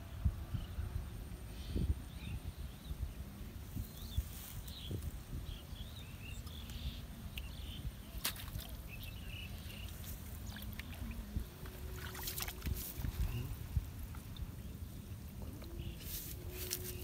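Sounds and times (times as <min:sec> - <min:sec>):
water splashes and rustles: 0:03.3 - 0:17.0.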